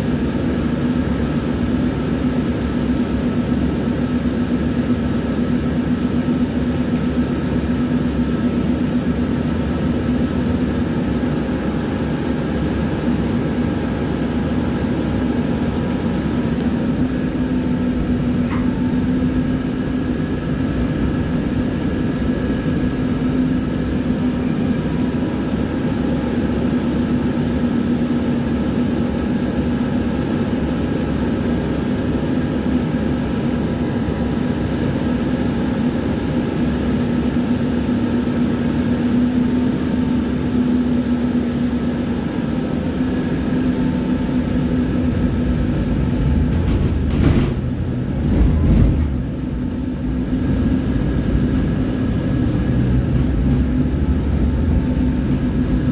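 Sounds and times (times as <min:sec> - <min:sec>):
tram rumbling and humming: 0:00.0 - 0:55.9.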